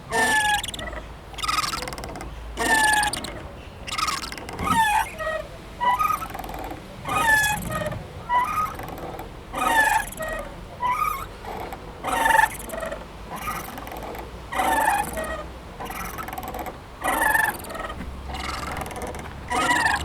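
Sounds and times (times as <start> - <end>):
playground swing squeaking: 0.0 - 20.0.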